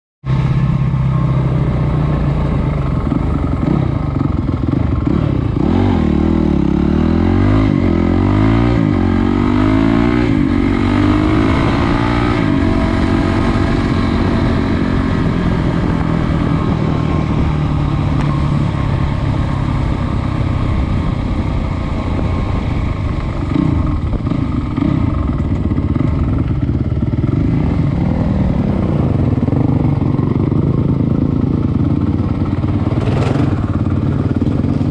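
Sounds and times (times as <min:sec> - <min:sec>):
motorbike engine revving: 0:00.3 - 0:34.9.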